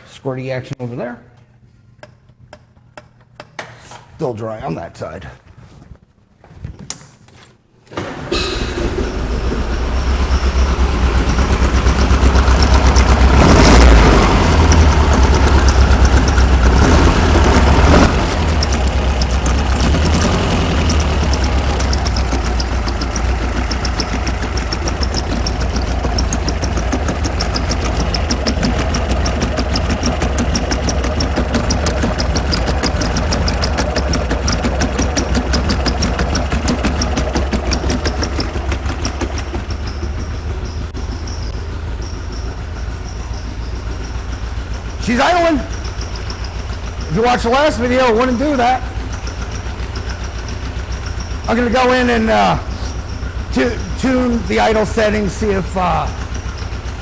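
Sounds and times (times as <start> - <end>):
car engine starting and idling: 7.9 - 57.0.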